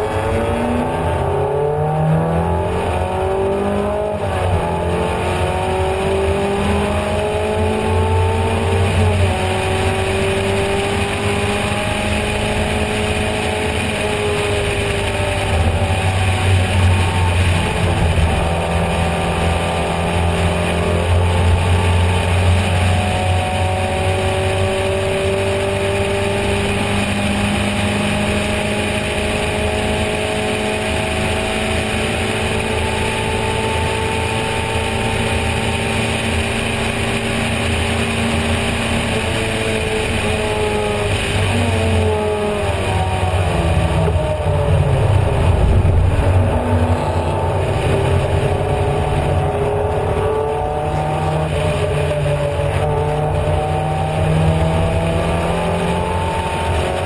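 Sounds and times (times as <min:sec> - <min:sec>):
racing car engine: 0:00.0 - 0:57.0
wind and road rush: 0:00.0 - 0:57.0.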